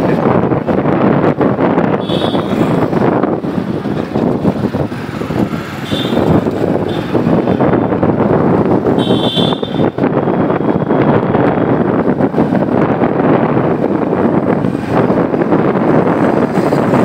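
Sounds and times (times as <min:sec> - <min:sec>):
motorbike running: 0:00.0 - 0:17.0
wind rushing over microphone: 0:00.0 - 0:17.0.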